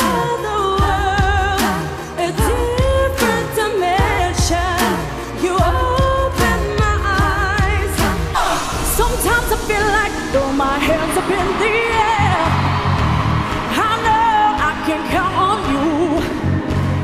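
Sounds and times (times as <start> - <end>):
person singing with vibrato: 0.0 - 17.0
pop beat: 0.0 - 17.0
sliding bass notes: 0.0 - 17.0.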